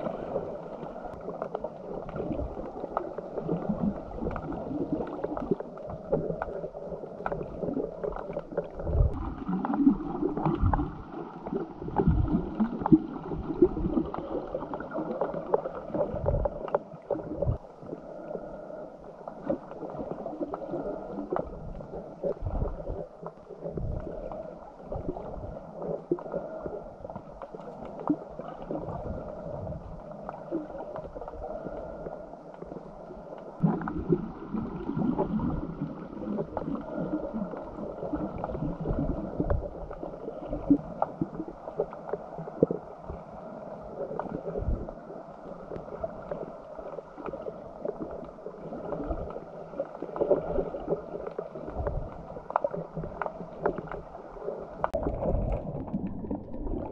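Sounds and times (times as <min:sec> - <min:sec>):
muffled water sloshing and gurgling: 0:00.0 - 0:56.9.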